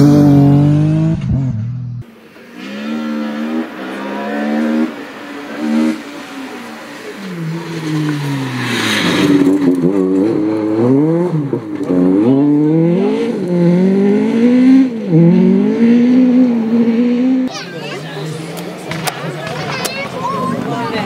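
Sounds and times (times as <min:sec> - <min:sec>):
rally car engine revving: 0:00.0 - 0:17.5.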